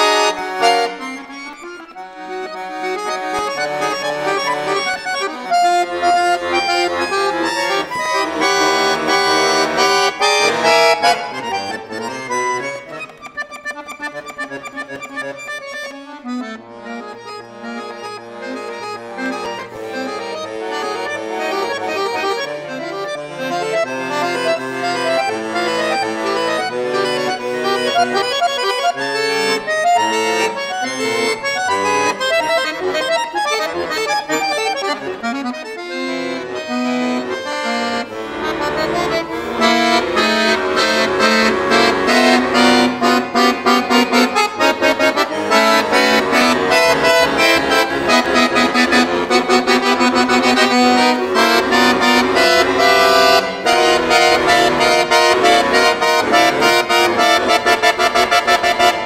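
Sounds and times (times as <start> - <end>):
solo accordion playing: 0.0 - 59.0.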